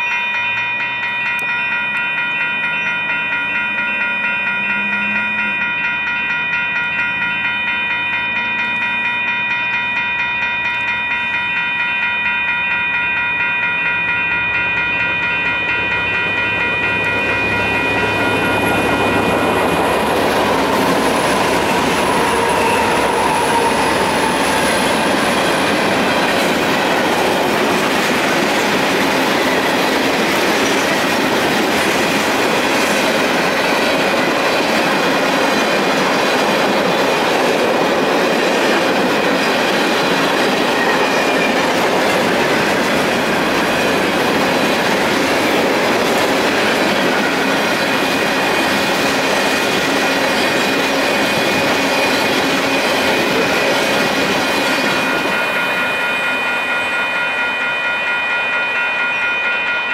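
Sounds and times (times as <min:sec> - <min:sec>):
freight train wheels rumbling: 0:00.0 - 0:59.2
crossing bell ringing fast: 0:00.0 - 0:59.9.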